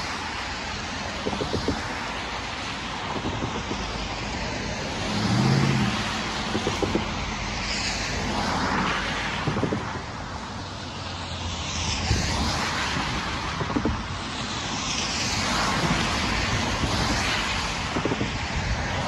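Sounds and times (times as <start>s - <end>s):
tyres hissing on wet road: 0.0s - 19.0s.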